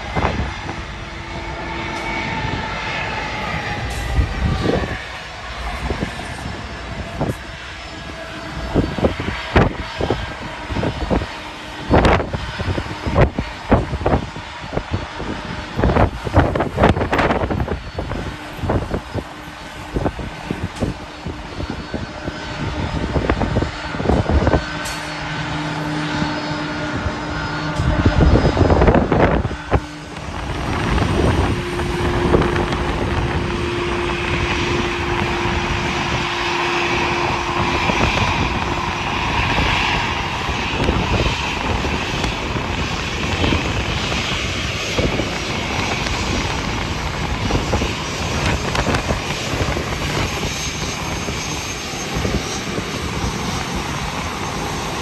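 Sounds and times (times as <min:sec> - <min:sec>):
jet engines roaring: 0:00.0 - 0:55.0
wind buffeting microphone: 0:00.0 - 0:55.0.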